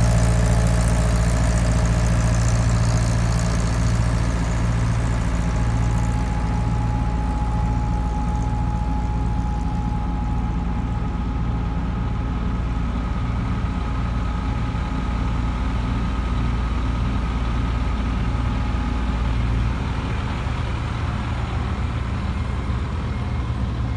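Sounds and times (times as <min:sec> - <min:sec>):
diesel machinery rumble: 0:00.0 - 0:23.9
thin steady whine: 0:00.0 - 0:23.9.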